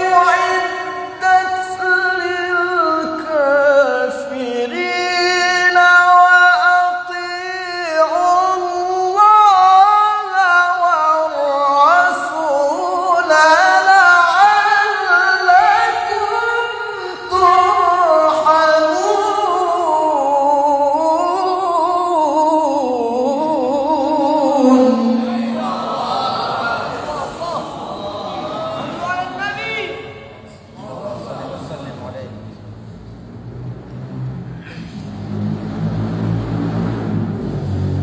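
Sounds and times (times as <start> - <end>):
man chanting melodically: 0.0 - 32.7.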